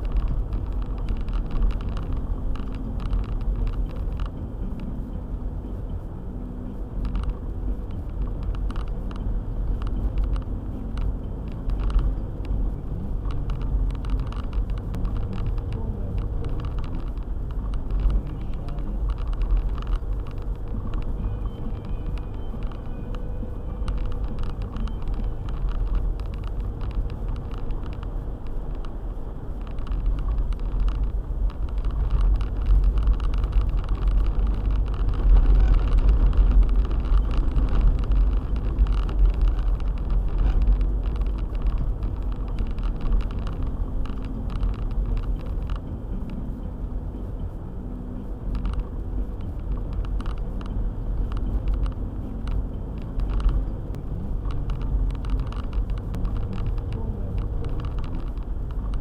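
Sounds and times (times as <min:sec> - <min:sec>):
car rumbling on snowy road: 0:00.0 - 0:59.0
small sharp ticks: 0:07.0 - 0:46.5, 0:48.2 - 0:59.0.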